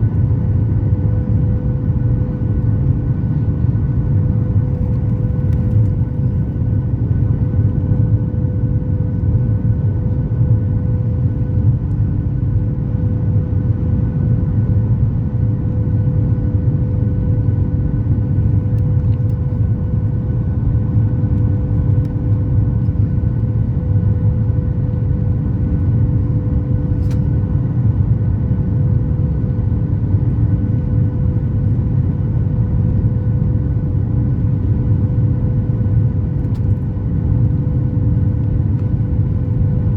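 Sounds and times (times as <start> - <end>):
airliner cabin rumble: 0.0 - 39.9
faint constant hum: 0.0 - 39.9.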